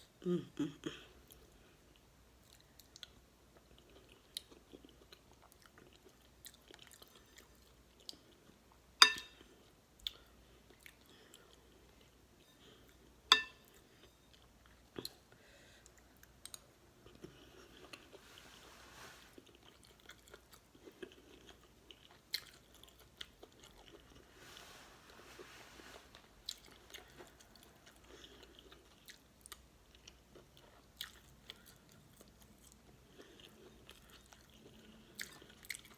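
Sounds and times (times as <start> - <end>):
chewing and eating: 1.1 - 35.9.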